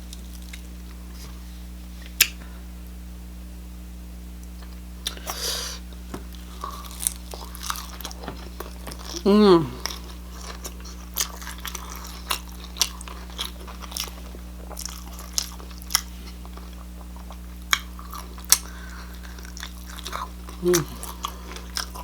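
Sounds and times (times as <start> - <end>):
food being chewed: 0.0 - 1.4, 4.4 - 22.0.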